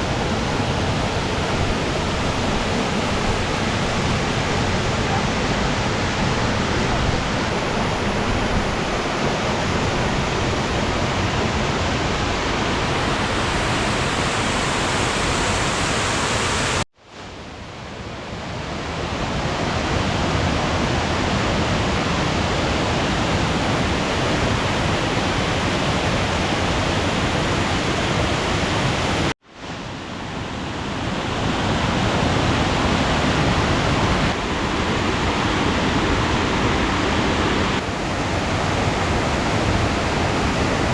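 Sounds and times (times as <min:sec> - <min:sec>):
waterfall rushing: 0:00.0 - 0:16.8, 0:18.9 - 0:40.9.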